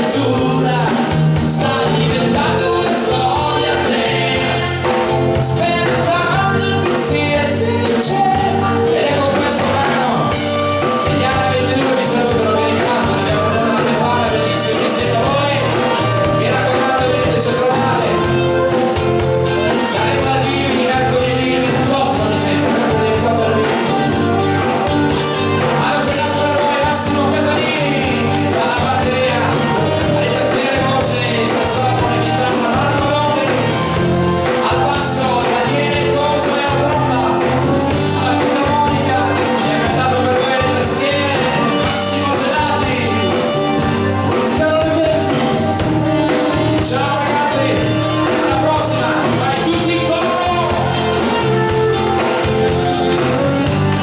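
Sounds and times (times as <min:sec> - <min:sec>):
live band dance music: 0:00.0 - 0:54.0
person singing: 0:00.0 - 0:54.0.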